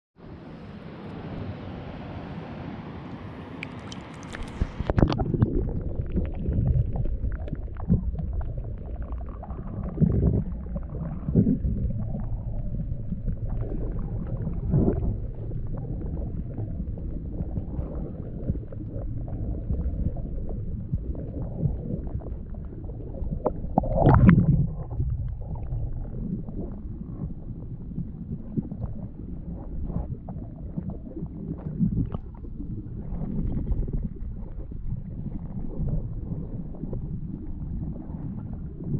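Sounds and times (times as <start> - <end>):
underwater river rumble and gurgle: 0.2 - 38.9.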